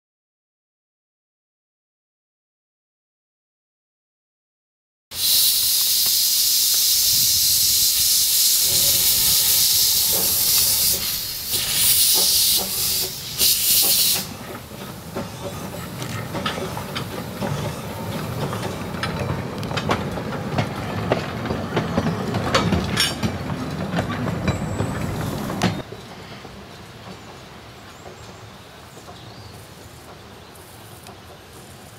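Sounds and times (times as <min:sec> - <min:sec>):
steam locomotive hissing: 0:05.1 - 0:28.9, 0:29.5 - 0:31.9
train rumbling past: 0:05.1 - 0:31.9
wheels clicking on track: 0:05.2 - 0:31.9.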